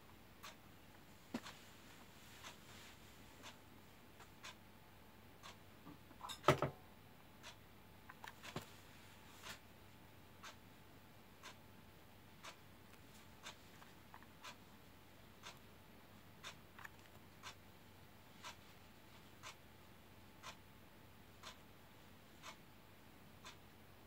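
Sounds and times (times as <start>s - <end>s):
clock ticking: 0.2s - 1.6s, 2.3s - 8.7s, 9.4s - 24.0s.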